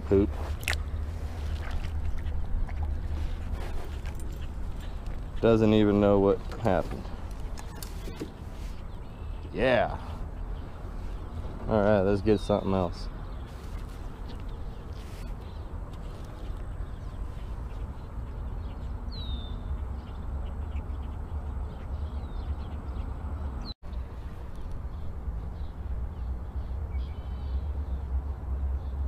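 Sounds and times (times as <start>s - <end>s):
wind rumble on microphone: 0.0s - 29.0s.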